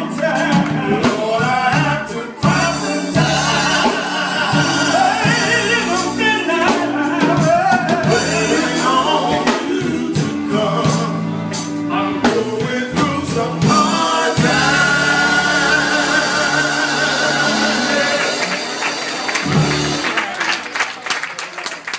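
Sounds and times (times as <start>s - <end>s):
gospel group singing: 0.0s - 20.0s.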